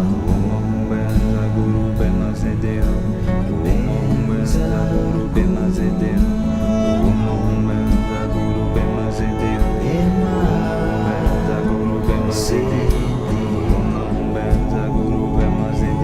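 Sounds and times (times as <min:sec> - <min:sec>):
song with strings and guitar: 0:00.0 - 0:16.0.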